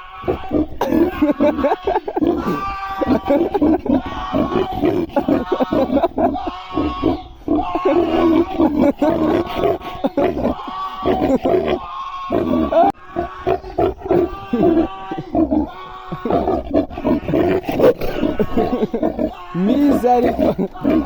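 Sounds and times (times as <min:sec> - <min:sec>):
pigs grunting and squealing: 0:00.0 - 0:21.0.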